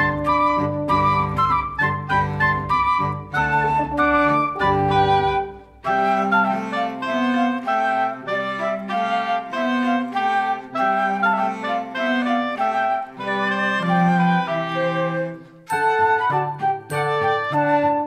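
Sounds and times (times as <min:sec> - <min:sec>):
instrumental background music: 0:00.0 - 0:18.0.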